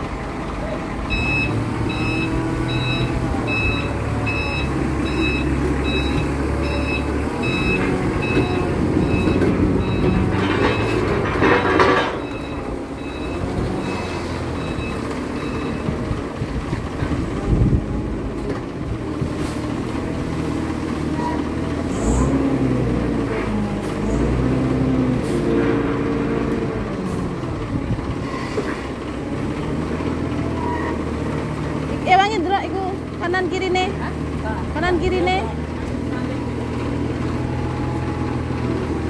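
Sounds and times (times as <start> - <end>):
forklift engine running: 0.0 - 39.0.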